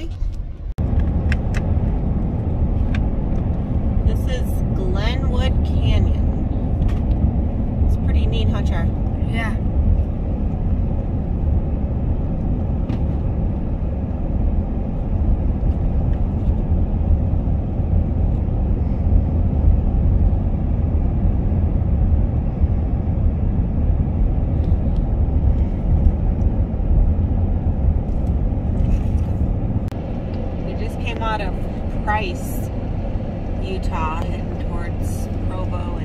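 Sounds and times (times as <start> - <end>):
car cabin road and engine rumble: 0.0 - 36.0.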